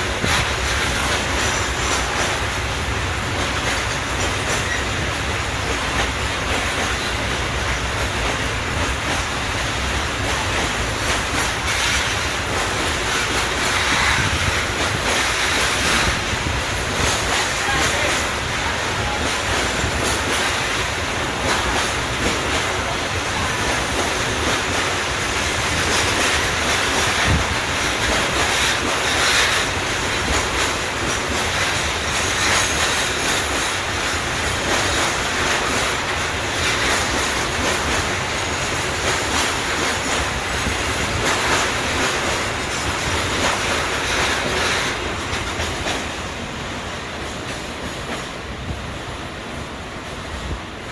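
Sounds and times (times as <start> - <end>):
train wheels clattering over rails: 0.0 - 50.9.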